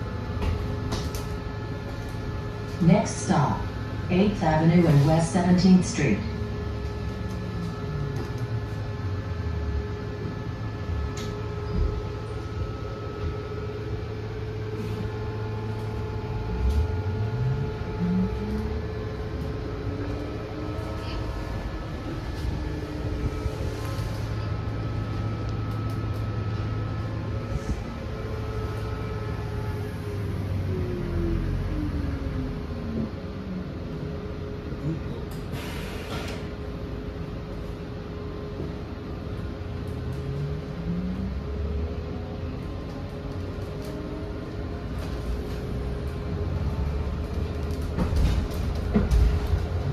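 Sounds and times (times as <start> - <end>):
bus hum and road rumble: 0.0 - 49.9
steady whine: 0.0 - 49.9.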